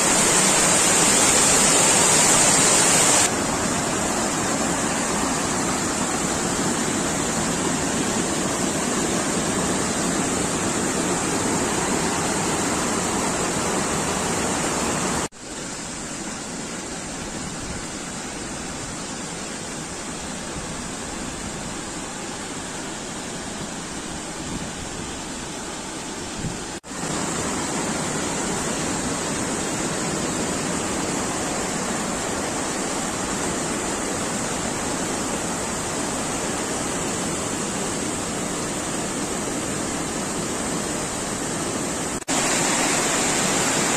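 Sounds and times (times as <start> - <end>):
river water rushing over rocks: 0.0 - 43.9.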